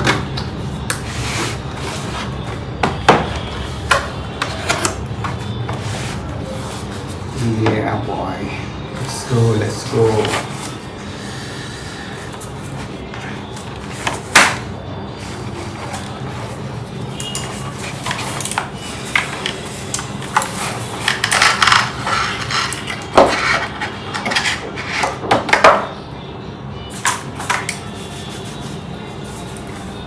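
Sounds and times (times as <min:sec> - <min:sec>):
cardboard and plastic rustling: 0:00.0 - 0:08.2, 0:09.0 - 0:11.0, 0:12.2 - 0:25.6, 0:26.9 - 0:30.0.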